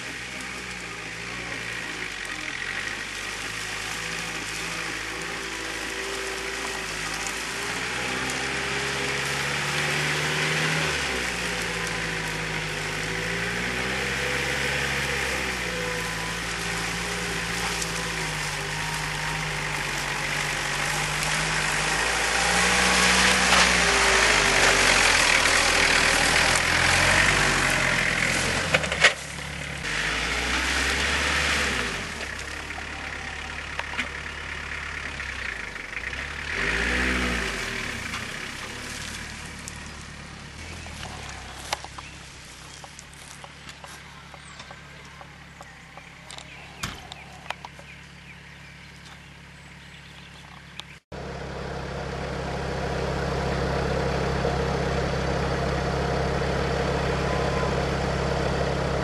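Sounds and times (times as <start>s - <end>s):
car engine revving off-road: 0.0s - 59.0s.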